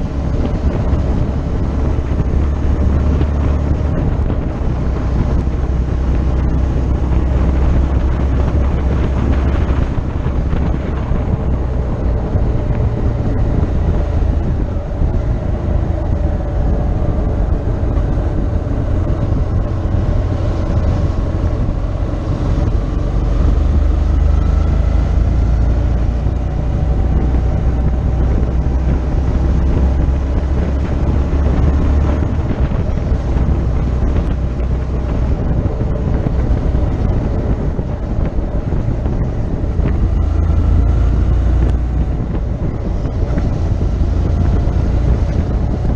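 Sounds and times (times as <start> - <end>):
motorcycle engine running: 0.0 - 45.9
wind rumble on microphone: 0.0 - 45.9.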